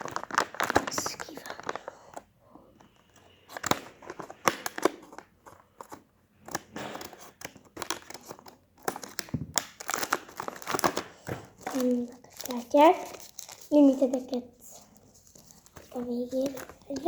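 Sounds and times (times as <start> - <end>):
card pack wrapper tearing and crinkling: 0.0 - 2.2, 3.5 - 14.2, 15.2 - 17.0.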